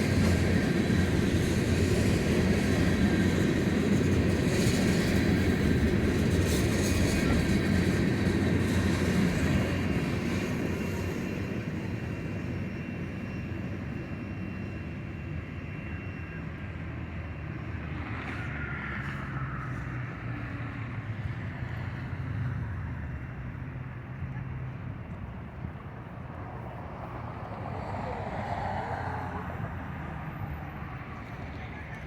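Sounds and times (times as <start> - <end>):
freight train cars rumbling: 0.0 - 32.0.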